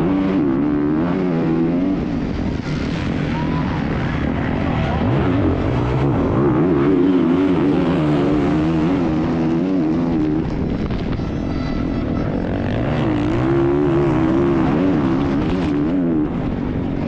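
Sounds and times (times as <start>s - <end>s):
dirt bike engine revving: 0.0s - 11.2s, 12.0s - 17.0s.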